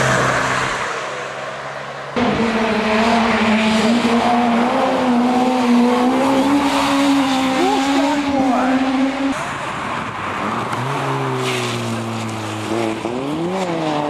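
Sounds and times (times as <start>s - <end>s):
rally car engine pulling hard: 2.2s - 14.0s.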